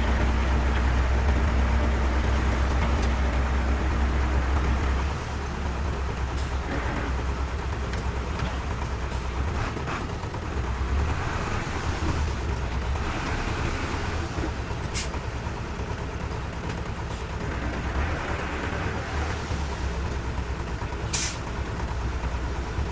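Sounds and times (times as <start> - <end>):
heavy diesel engine rumbling: 0.0 - 22.9.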